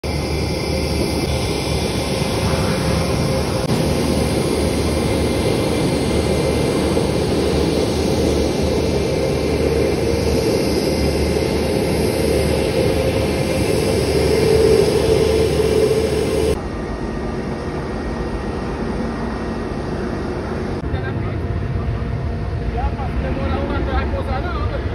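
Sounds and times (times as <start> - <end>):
jet engines running: 0.0 - 24.9.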